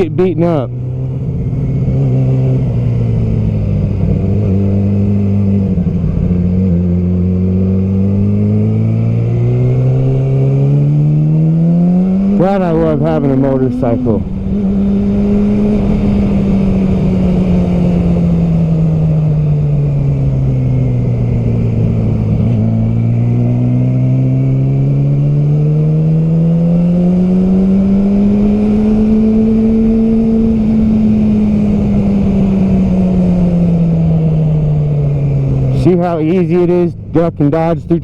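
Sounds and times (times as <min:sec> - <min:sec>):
motorcycle engine accelerating: 0:00.0 - 0:38.0
wind rumble: 0:00.0 - 0:38.0.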